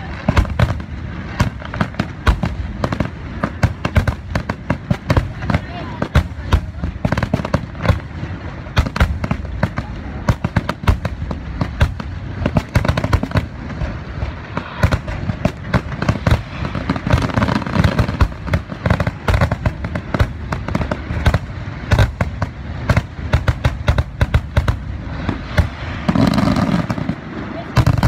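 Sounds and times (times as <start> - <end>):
fireworks bangs and crackle: 0.0 - 28.0.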